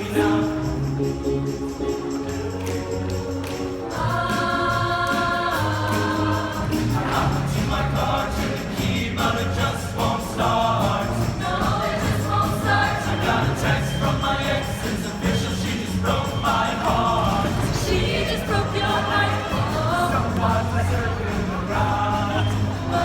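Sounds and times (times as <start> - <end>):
band accompaniment: 0.0 - 23.0
choir singing: 0.0 - 23.0.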